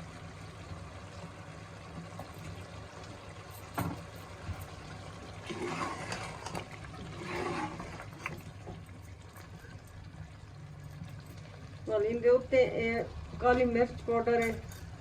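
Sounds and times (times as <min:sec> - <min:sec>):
food cooking wet liquid sound: 0:00.0 - 0:15.0.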